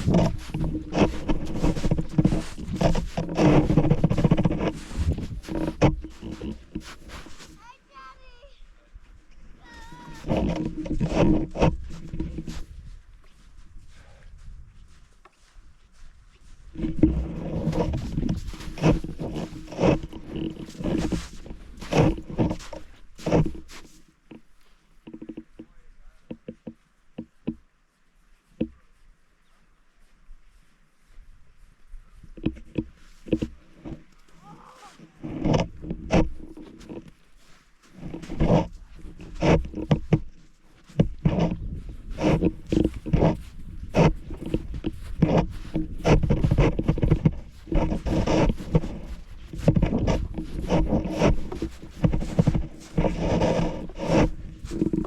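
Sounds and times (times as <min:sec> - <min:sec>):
footsteps crunching in snow: 0:00.0 - 0:55.0.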